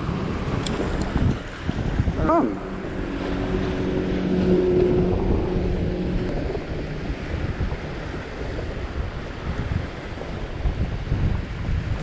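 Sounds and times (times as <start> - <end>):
low engine drone: 0.0 - 11.1
surf and rushing water: 0.0 - 12.0
wind buffeting microphone: 0.0 - 12.0.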